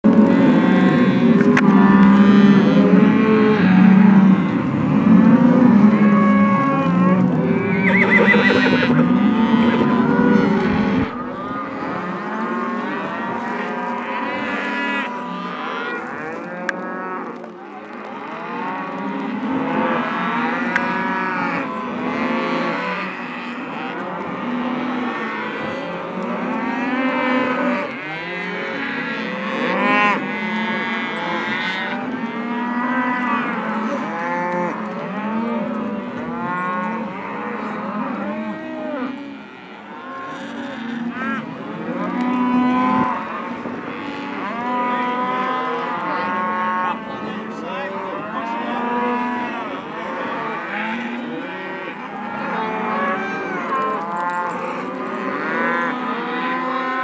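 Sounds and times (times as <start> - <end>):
cattle mooing: 0.1 - 57.0.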